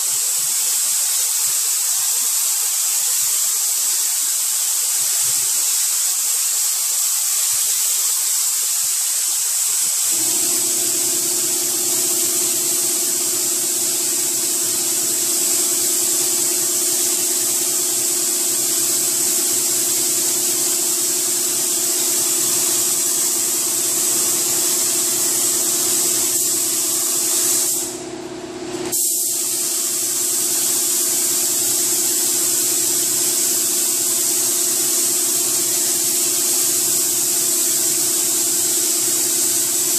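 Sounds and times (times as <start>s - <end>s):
paint spray gun hissing: 0.0s - 28.2s, 28.8s - 39.9s.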